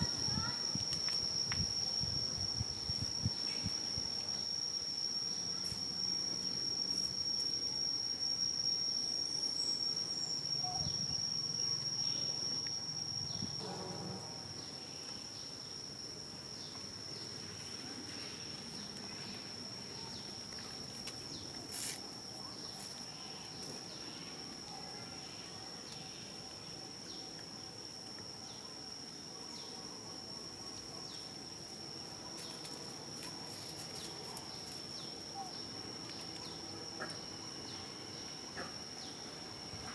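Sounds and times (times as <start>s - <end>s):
insect high-pitched singing: 0.0s - 29.0s, 30.6s - 39.9s
faint outdoor background noise: 0.0s - 39.9s.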